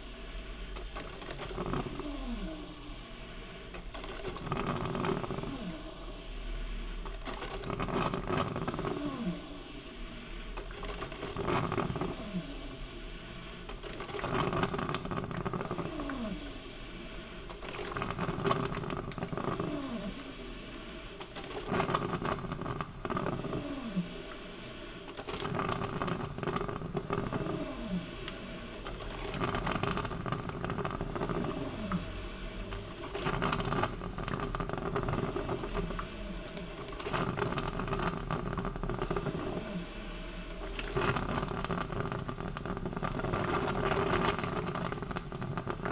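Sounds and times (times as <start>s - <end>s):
coffee maker gurgling and hissing: 0.0s - 45.9s.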